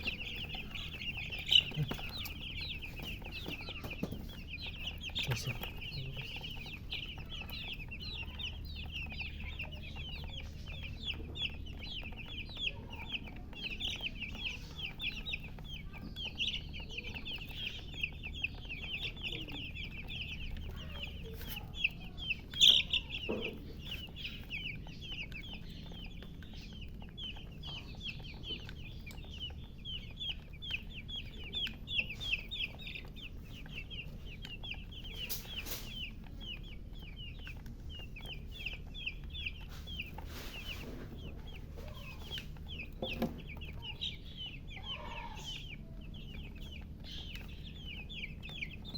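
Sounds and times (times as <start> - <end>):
baby chicks peeping: 0.0 - 48.9.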